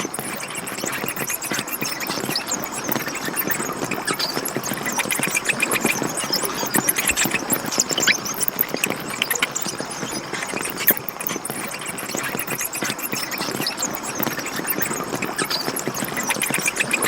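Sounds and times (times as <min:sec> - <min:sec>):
bats squeaking and chittering: 0:00.1 - 0:17.0.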